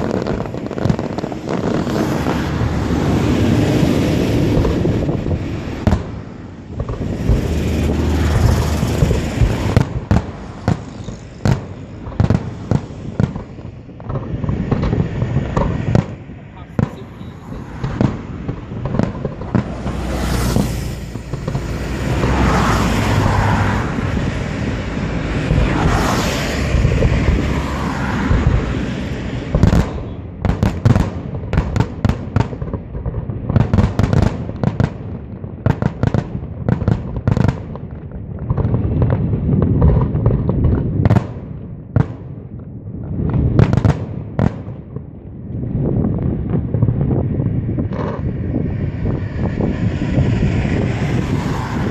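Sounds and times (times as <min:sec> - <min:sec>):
fireworks crackling: 0:00.0 - 0:51.9.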